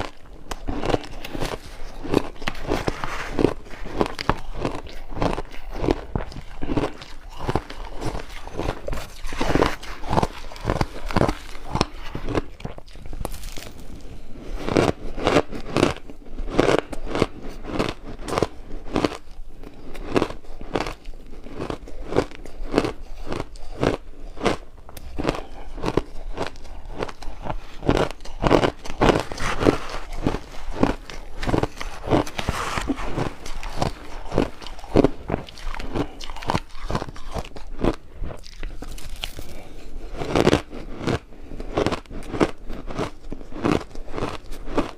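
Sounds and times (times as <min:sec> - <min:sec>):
person chewing ice: 0:00.0 - 0:44.9.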